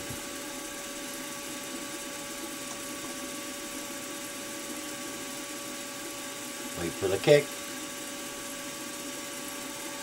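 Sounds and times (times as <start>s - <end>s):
faint spindle whine: 0.0s - 10.0s
milling machine motor hum: 0.0s - 10.0s.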